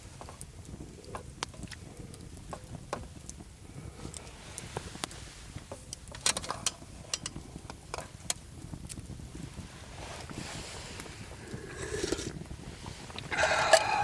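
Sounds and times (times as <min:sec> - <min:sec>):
campfire crackling: 0:00.0 - 0:14.0
low steady rumble: 0:00.0 - 0:14.0.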